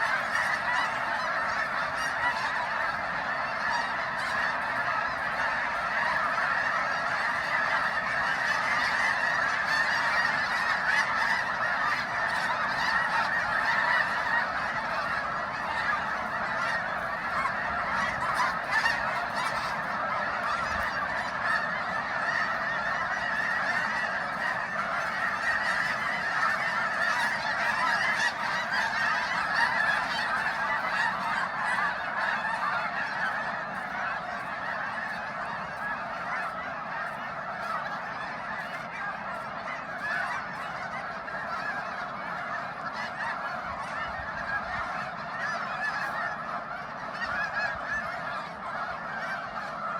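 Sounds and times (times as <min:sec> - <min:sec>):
flock of geese honking: 0:00.0 - 0:49.9.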